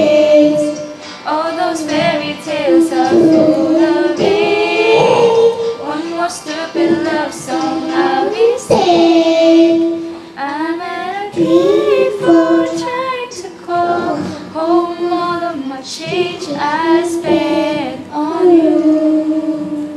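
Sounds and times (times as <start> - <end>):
person singing pop ballad: 0.0 - 19.9.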